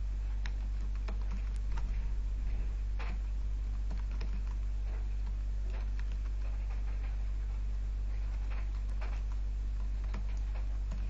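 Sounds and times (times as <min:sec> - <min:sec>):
low hum: 0:00.0 - 0:11.0
keyboard keys clicking: 0:00.3 - 0:11.0.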